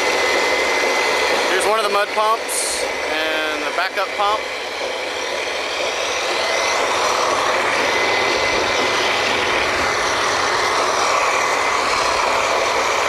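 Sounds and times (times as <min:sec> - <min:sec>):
drilling rig machinery running: 0:00.0 - 0:13.0.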